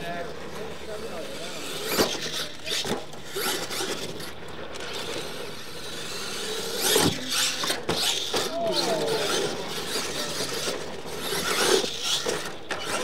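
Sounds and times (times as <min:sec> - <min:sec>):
toy truck motor whining: 0:00.0 - 0:13.0.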